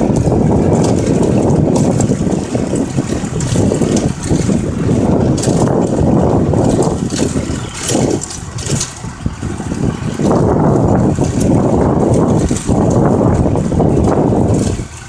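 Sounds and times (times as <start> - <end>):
farm vehicle engine rumbling: 0.0 - 15.0.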